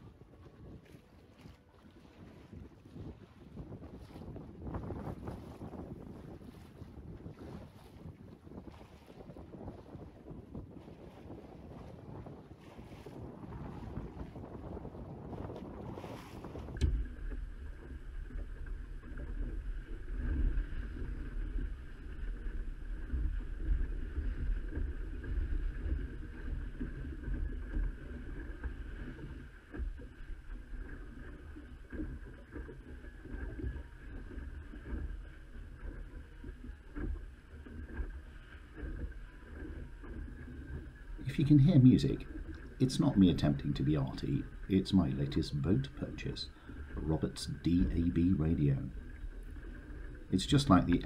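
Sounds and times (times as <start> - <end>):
water sloshing along boat hull: 0.0 - 51.0
wind rumble on microphone: 0.0 - 51.0.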